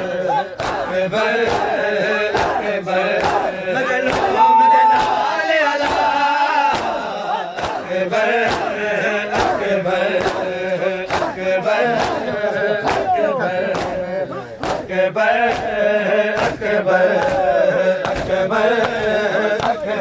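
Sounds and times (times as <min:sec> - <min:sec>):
men chanting: 0:00.0 - 0:20.0
hands slapping chests: 0:00.3 - 0:20.0.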